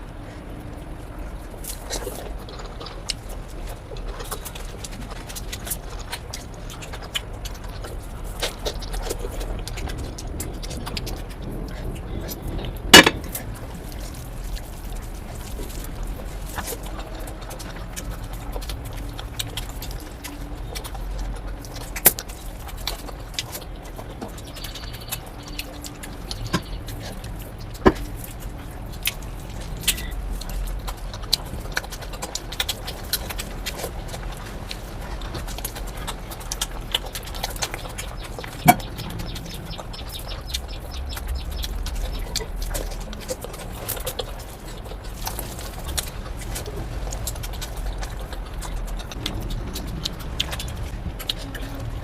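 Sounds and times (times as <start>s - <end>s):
chewing and mouth noises: 0.0s - 52.0s
low background rumble: 0.0s - 52.0s.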